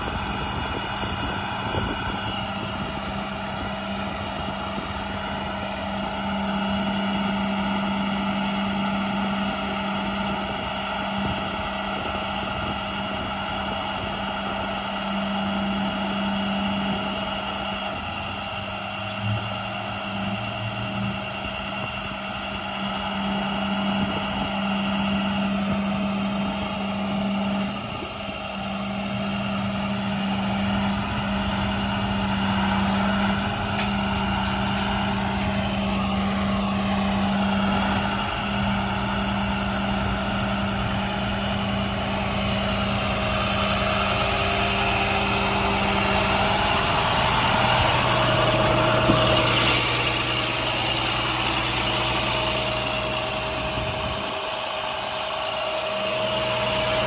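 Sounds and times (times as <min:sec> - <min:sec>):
hydraulic hum: 0:00.0 - 0:57.0
truck diesel engine running: 0:00.0 - 0:57.0.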